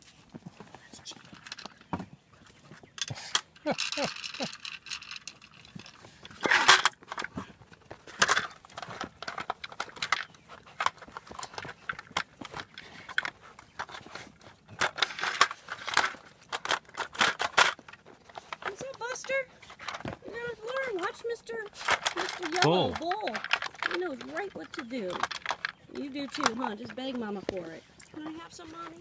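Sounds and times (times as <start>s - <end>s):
plastic toy rattling and clicking: 3.0s - 7.3s, 8.1s - 14.0s, 14.8s - 29.0s.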